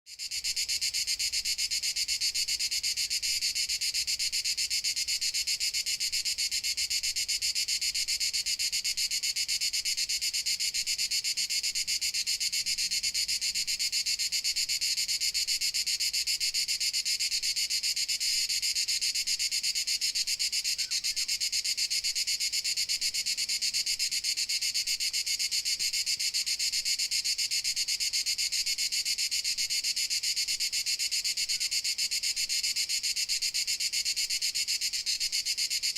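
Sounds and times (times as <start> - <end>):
crickets chirping: 0.1 - 35.9.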